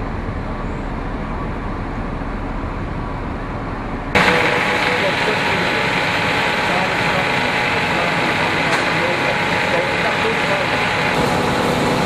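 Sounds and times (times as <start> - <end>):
factory machinery noise: 0.0 - 12.0
low rumbling machinery: 0.0 - 12.0
steady machine tones: 0.0 - 12.0.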